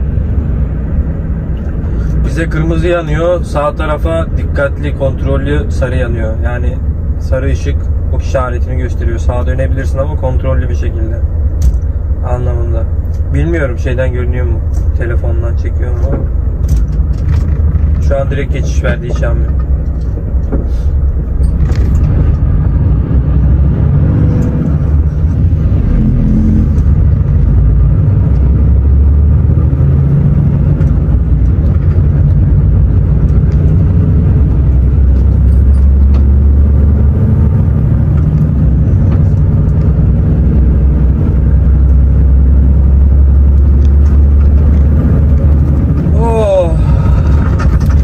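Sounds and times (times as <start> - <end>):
truck diesel engine drone: 0.0 - 48.0.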